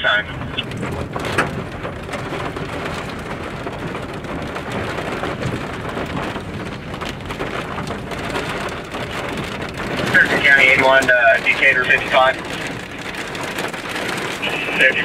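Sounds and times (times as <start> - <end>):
rain on car windshield: 0.0 - 15.0.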